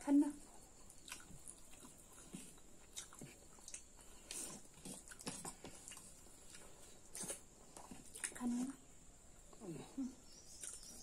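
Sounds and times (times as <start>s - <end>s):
people chewing with wet smacks: 0.6s - 8.8s, 9.4s - 11.0s.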